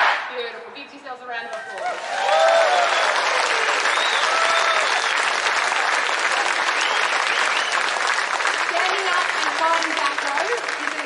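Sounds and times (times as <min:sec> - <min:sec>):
crowd applauding: 0:01.5 - 0:11.0.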